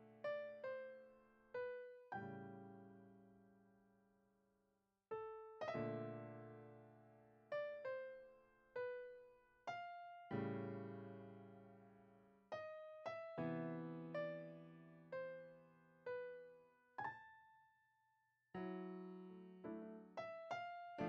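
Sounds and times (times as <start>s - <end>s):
slow piano music: 0.0s - 3.6s, 5.1s - 17.8s, 18.5s - 21.0s.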